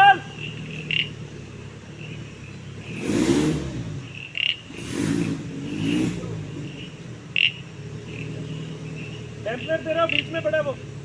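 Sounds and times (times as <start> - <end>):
off-road engine idling and revving: 0.0 - 11.0.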